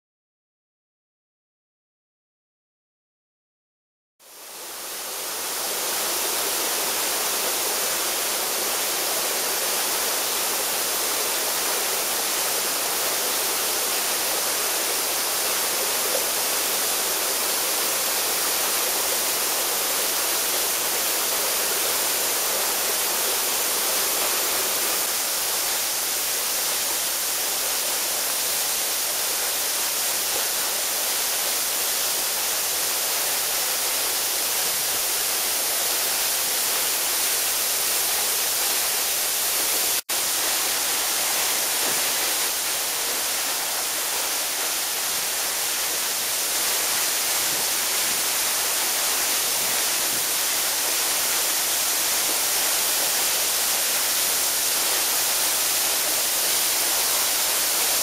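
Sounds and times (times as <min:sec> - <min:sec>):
waterfall rushing and splashing: 0:04.2 - 0:58.0.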